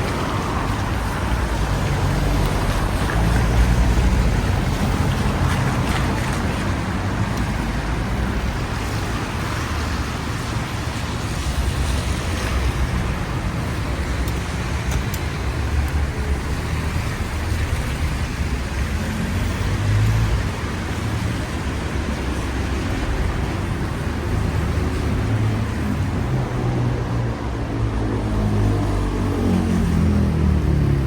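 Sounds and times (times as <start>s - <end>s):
rain: 0.0s - 31.0s
road traffic on wet streets: 0.0s - 31.0s.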